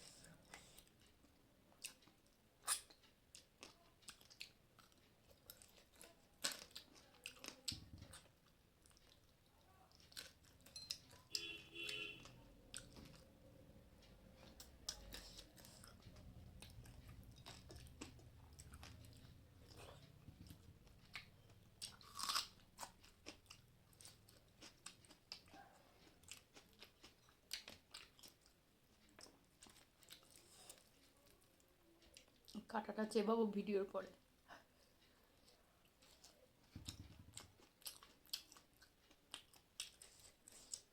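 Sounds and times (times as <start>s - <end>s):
person chewing and crunching food: 0.0s - 13.4s, 14.0s - 32.6s, 35.0s - 40.9s.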